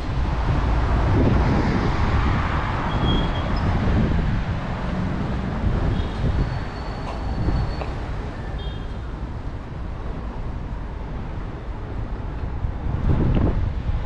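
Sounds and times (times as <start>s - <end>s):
wind on microphone: 0.0s - 8.3s, 9.8s - 14.0s
traffic rumble: 0.0s - 14.0s.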